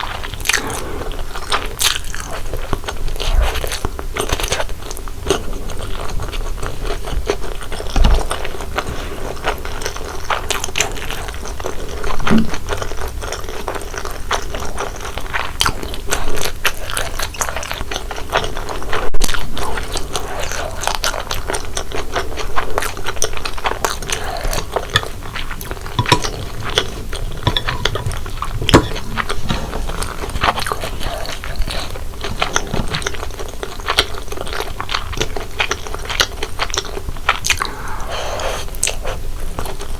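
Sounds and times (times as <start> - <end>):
chewing noodles: 0.0 - 39.9.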